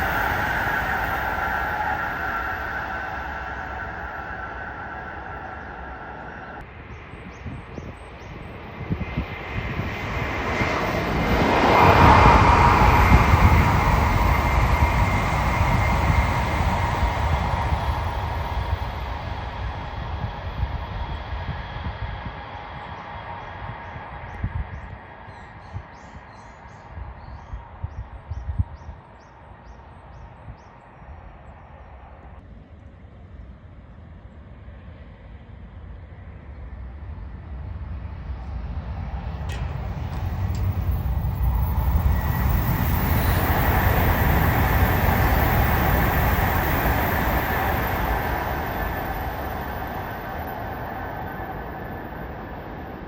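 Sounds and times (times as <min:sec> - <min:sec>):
high-speed train rushing: 0:00.0 - 0:28.2, 0:34.4 - 0:53.0
wind buffeting microphone: 0:00.0 - 0:31.6, 0:36.2 - 0:53.0.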